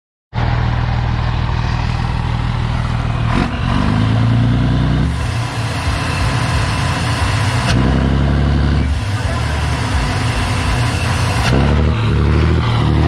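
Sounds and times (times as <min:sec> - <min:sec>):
diesel truck engine rumbling: 0:00.3 - 0:13.0.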